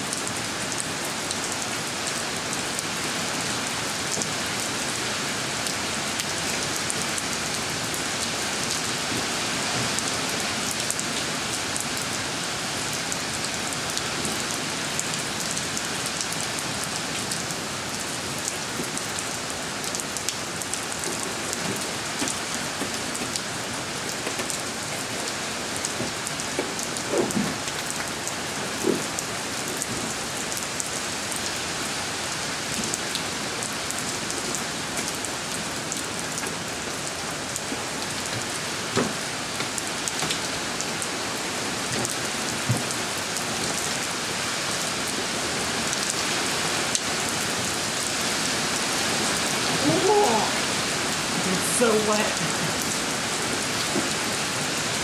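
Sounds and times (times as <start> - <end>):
rain on concrete and puddles: 0.0 - 55.0.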